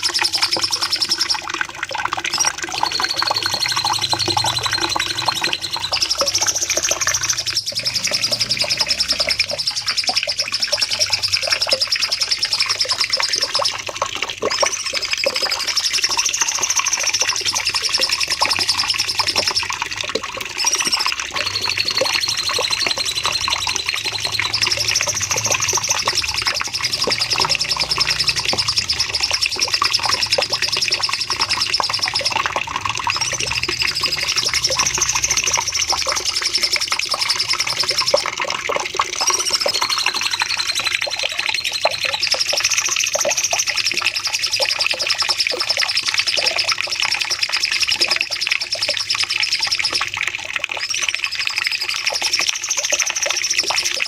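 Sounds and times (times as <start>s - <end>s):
bird singing rapid high trills: 0.0s - 13.9s, 14.5s - 50.0s.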